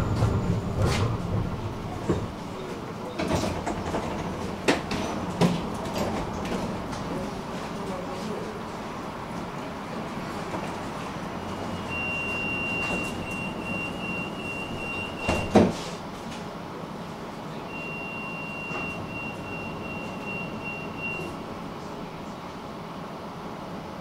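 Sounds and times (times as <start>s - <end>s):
tram running rumble: 0.0s - 24.0s.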